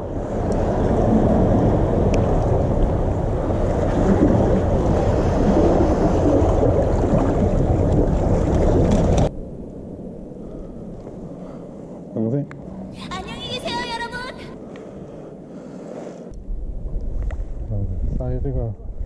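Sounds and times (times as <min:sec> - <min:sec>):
wind buffeting microphone: 0:00.0 - 0:15.6, 0:16.3 - 0:19.0.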